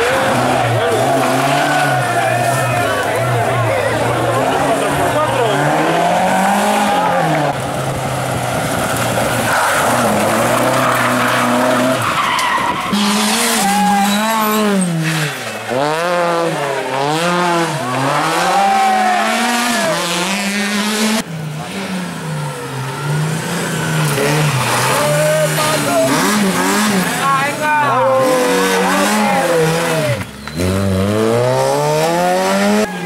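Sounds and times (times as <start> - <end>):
rally car engine revving: 0.0 - 33.0
tyres skidding: 0.0 - 33.0.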